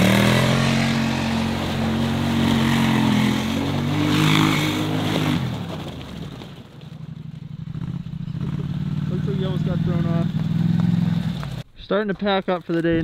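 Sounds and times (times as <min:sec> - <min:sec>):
atv engine revving: 0:00.0 - 0:11.6.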